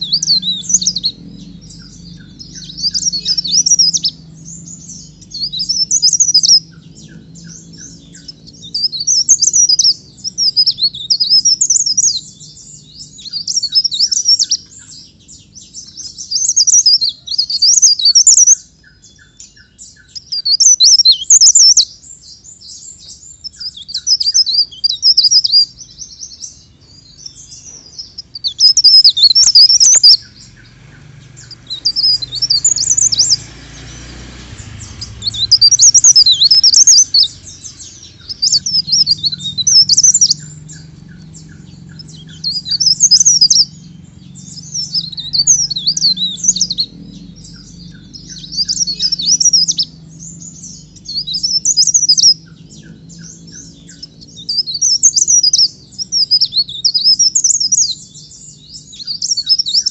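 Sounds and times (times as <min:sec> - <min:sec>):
bird twittering: 0:00.0 - 0:59.9.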